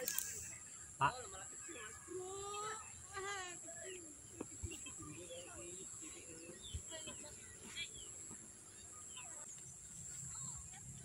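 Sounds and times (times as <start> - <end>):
birds chirping: 0.0 - 11.0
faint voices: 0.0 - 11.0.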